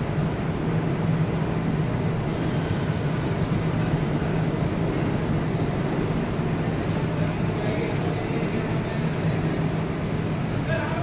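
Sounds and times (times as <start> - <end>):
idling train hum: 0.0 - 11.0.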